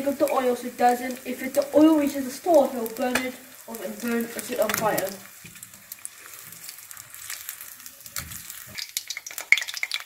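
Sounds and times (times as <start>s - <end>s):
fish sizzling in hot oil: 0.0s - 10.0s
oil crackling: 0.0s - 10.0s.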